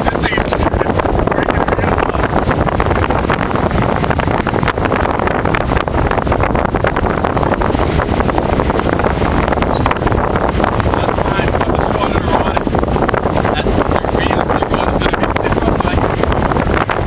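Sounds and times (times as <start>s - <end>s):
strong wind roaring: 0.0s - 17.0s
wind thumps on microphone: 0.0s - 17.0s.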